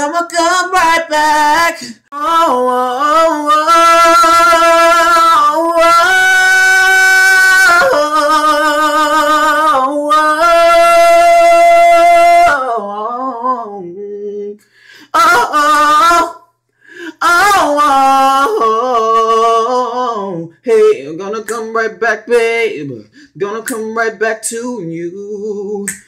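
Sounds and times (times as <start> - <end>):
man singing a cappella: 0.0 - 26.0.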